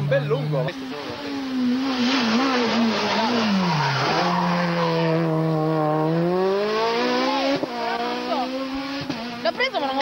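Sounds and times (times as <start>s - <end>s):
rally car engine: 0.0s - 10.0s.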